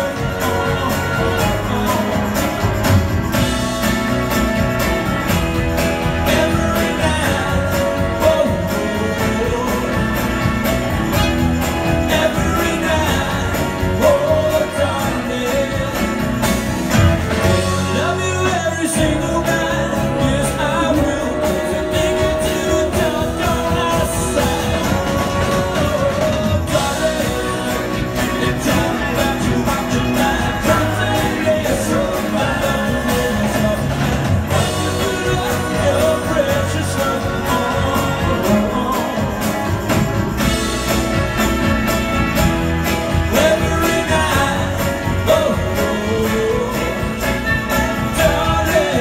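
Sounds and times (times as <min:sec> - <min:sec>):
lead and backing singing: 0:00.0 - 0:49.0
live rock band playing: 0:00.0 - 0:49.0.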